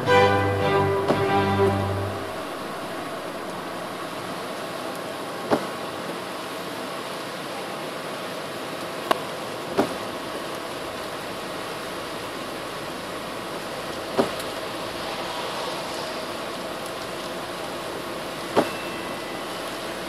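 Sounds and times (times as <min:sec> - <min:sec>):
road and tyre noise: 0:00.0 - 0:20.0.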